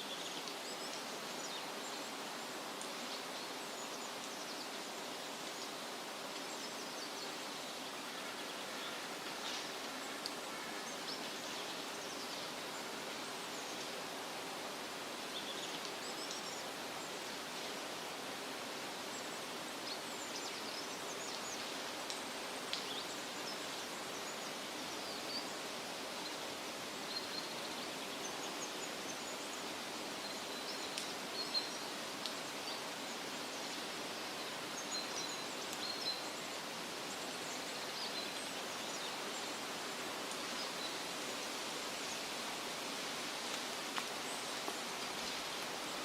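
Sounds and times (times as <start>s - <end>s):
wind rustling leafy trees: 0.0s - 46.0s.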